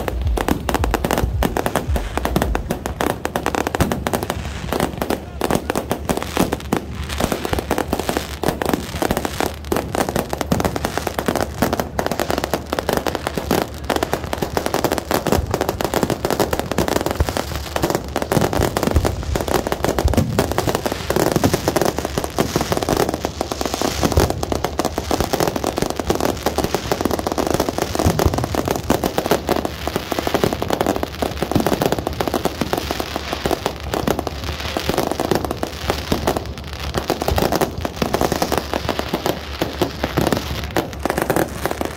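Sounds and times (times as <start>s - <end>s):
fireworks barrage: 0.0s - 41.9s.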